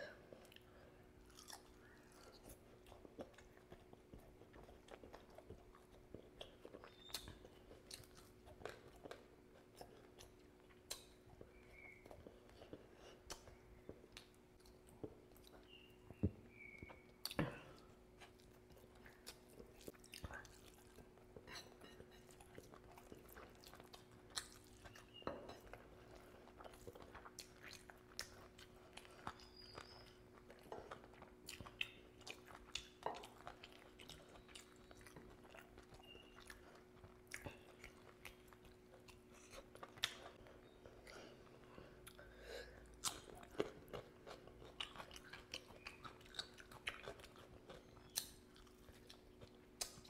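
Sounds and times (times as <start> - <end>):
faint steady hum: 0.0 - 50.0
chewing food: 0.1 - 50.0.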